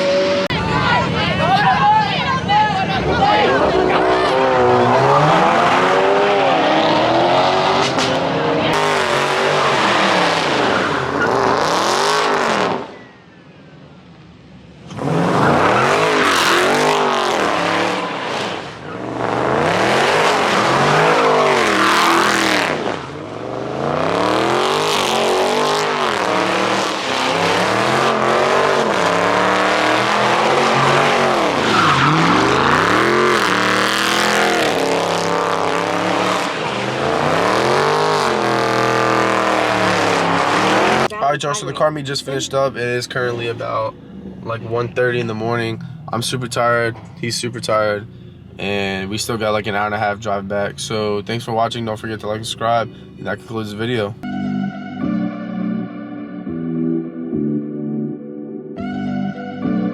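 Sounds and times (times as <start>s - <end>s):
car engines revving hard: 0.0s - 13.2s, 14.3s - 54.2s.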